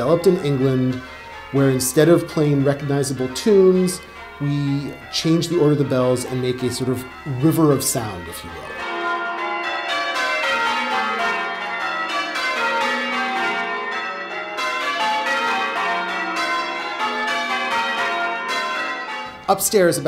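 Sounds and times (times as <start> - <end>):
church bells change ringing: 0.0 - 20.0.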